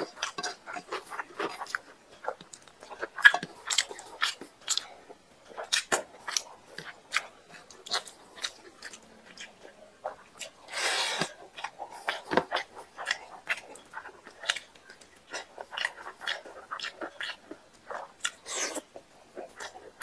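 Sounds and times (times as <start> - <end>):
wet chewing and lip smacks: 0.0 - 20.0.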